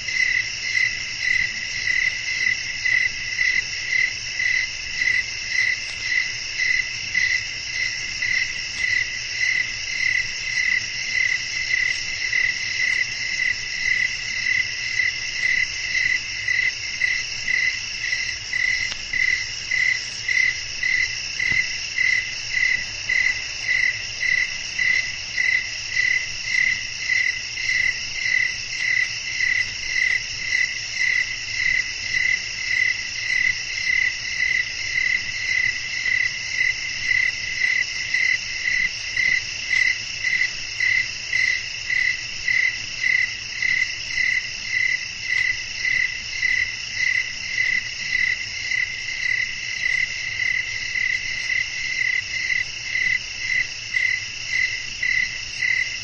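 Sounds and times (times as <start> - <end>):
crickets and insects shrilling: 0.0 - 56.0
loud pulsing insect chirp: 0.0 - 56.0.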